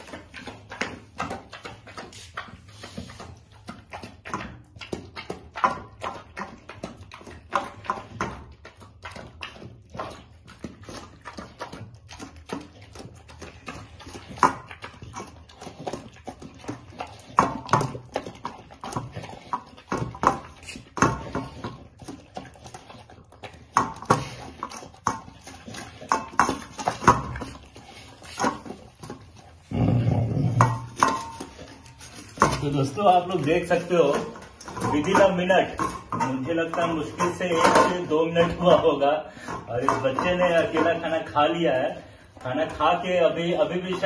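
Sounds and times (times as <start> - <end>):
puppy chewing and lapping: 0.0 - 44.0.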